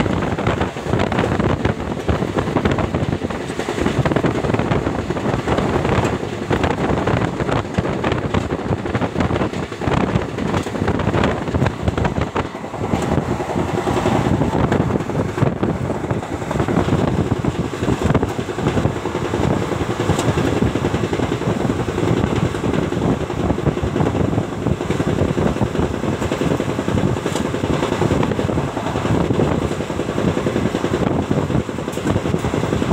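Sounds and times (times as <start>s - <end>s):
train rumbling: 0.0s - 32.9s
wheels clattering over rails: 0.0s - 32.9s.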